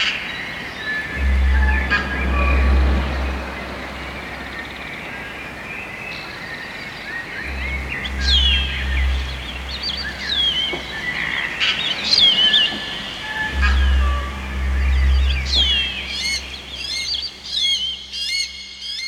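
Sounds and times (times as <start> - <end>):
low bass drone: 0.0 - 19.0
birds chirping and whistling: 0.4 - 19.0.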